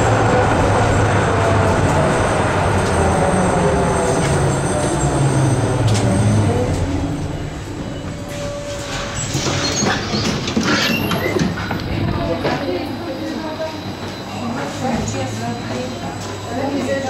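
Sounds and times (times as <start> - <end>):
tram drive whine: 0.0 - 17.0
tram low rumble: 0.0 - 17.0.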